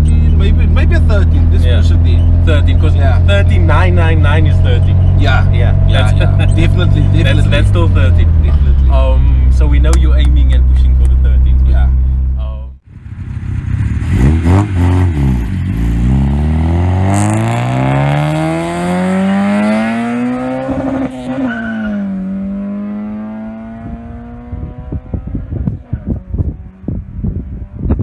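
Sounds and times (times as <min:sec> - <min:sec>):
car engine accelerating hard: 0:00.0 - 0:11.9, 0:13.0 - 0:26.8
exhaust crackling: 0:00.0 - 0:28.0.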